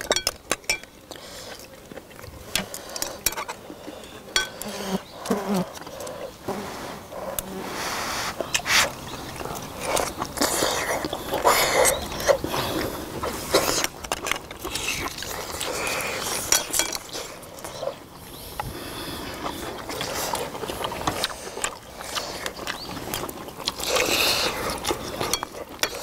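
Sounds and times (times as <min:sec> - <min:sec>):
chewing: 0:00.0 - 0:26.0
sucking and slurping: 0:00.0 - 0:26.0.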